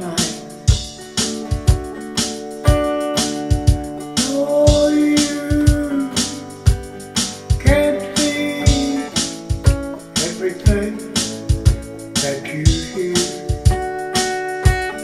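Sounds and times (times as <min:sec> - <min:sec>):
country guitar with sliding notes: 0:00.0 - 0:15.0
steady drum beat: 0:00.0 - 0:15.0.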